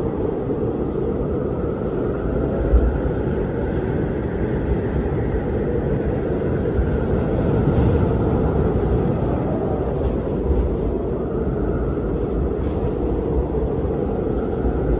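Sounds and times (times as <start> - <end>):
howling wind with rumbling gusts: 0.0 - 14.9.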